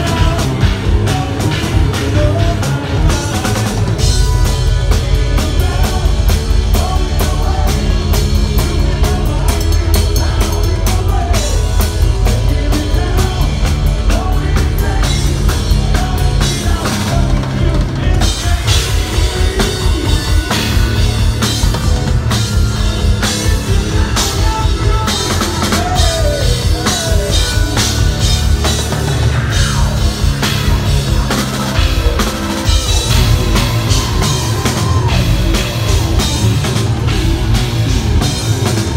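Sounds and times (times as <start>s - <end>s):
drum kit hits: 0.0s - 38.9s
metal band playing: 0.0s - 38.9s.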